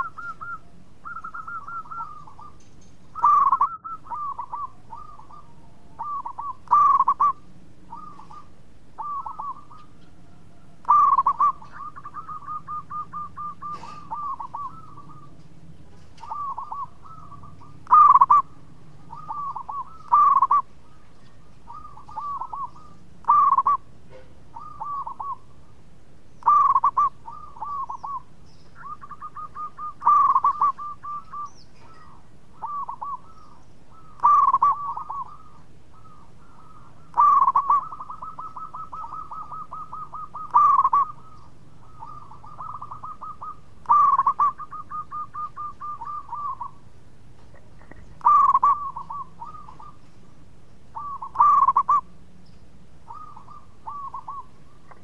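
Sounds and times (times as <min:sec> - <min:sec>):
dove cooing: 0:00.0 - 0:25.8, 0:26.4 - 0:52.3, 0:53.0 - 0:55.0.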